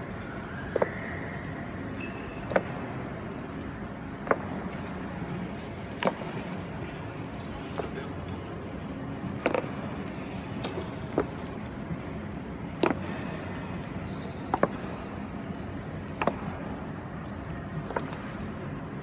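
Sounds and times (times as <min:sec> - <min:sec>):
background hum: 0:00.0 - 0:19.0.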